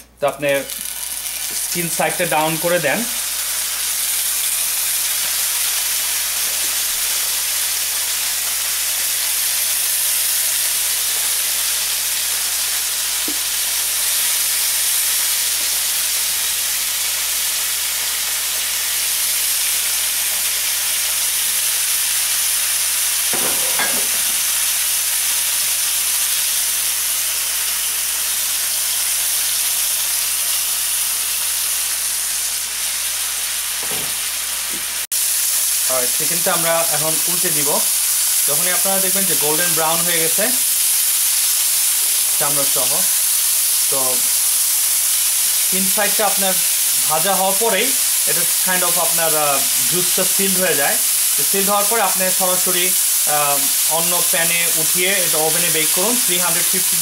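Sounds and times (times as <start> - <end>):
chicken sizzling in a hot pan: 0.4 - 57.0.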